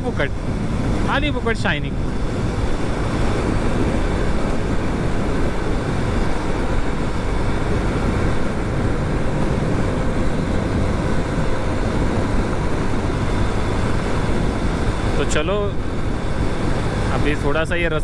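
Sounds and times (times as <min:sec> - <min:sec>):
motorcycle engine: 0:00.0 - 0:17.6
road noise: 0:00.0 - 0:18.0
wind rush on microphone: 0:00.0 - 0:18.0.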